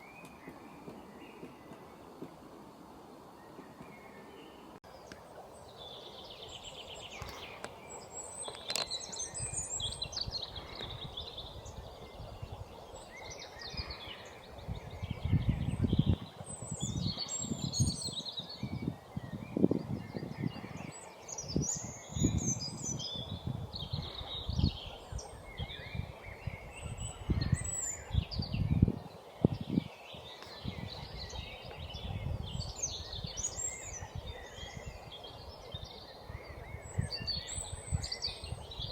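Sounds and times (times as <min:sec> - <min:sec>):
songbirds chirping and singing: 0:03.2 - 0:38.9.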